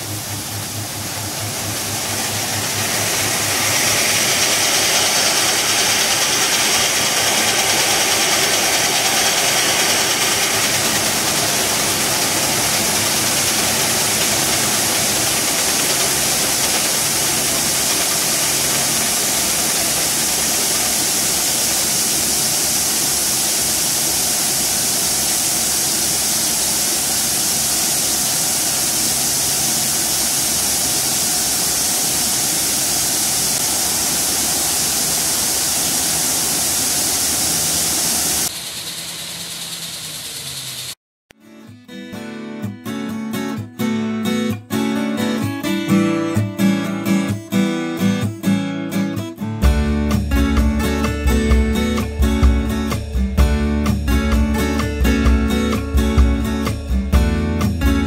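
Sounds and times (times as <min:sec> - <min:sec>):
diesel engine running: 0:00.0 - 0:41.0, 0:49.6 - 0:58.0
grain stream rushing hiss: 0:00.0 - 0:41.0, 0:49.7 - 0:57.9.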